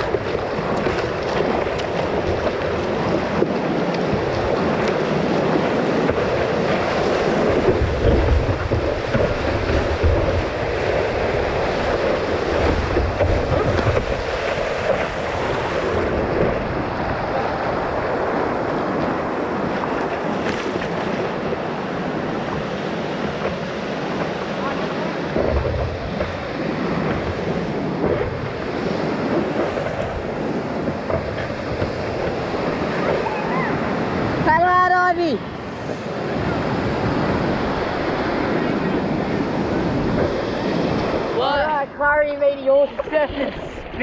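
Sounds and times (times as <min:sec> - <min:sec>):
whitewater rushing and splashing: 0:00.0 - 0:44.0
wind buffeting microphone: 0:00.0 - 0:44.0.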